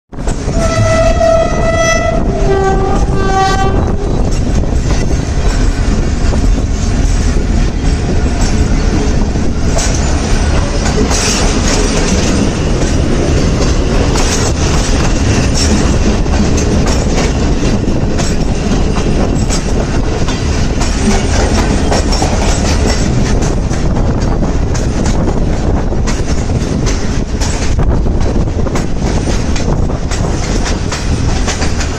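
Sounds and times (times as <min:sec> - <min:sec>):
train wagons rumbling: 0:00.1 - 0:31.9
wheels clicking over rail joints: 0:04.2 - 0:31.9.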